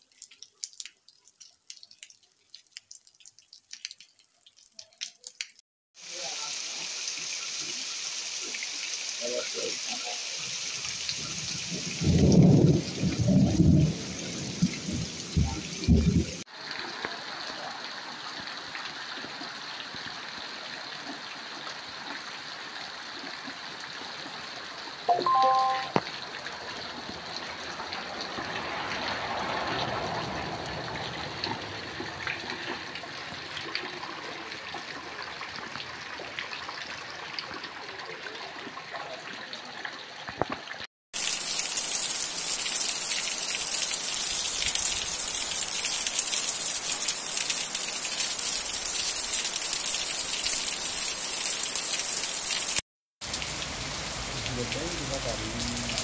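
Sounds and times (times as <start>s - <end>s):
water running off a roof: 0.0s - 56.0s
heavy downpour: 6.0s - 39.9s, 40.5s - 56.0s.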